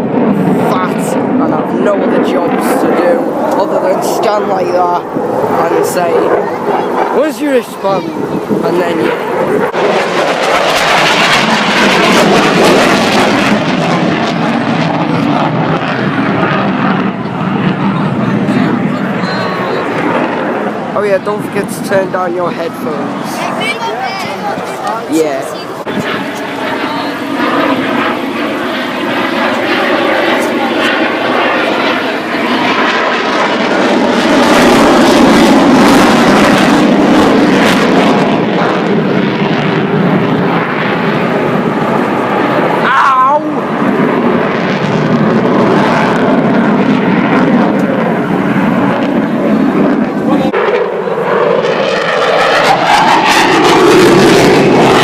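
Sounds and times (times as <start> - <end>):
aircraft flying past roaring: 0.0 - 55.0.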